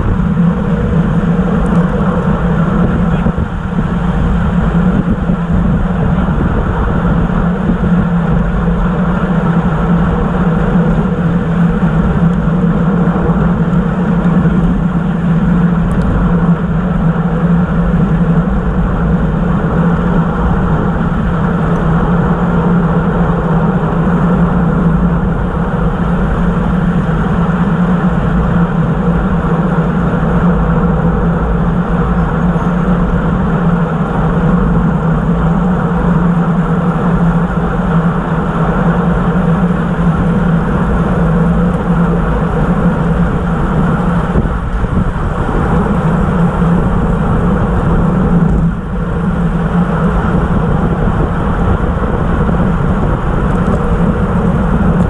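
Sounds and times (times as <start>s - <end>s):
bicycle tyre road noise: 0.0s - 55.0s
rushing wind noise: 0.0s - 55.0s.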